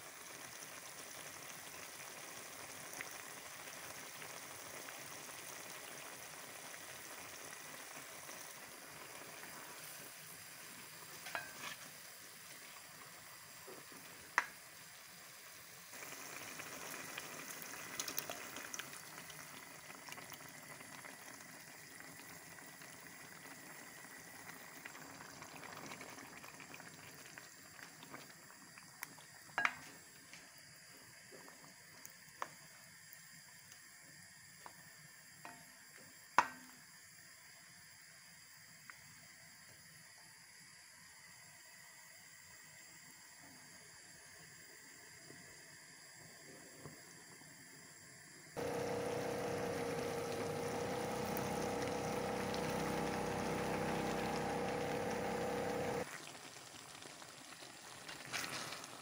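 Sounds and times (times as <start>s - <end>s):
food simmering in a pan: 0.0s - 59.0s.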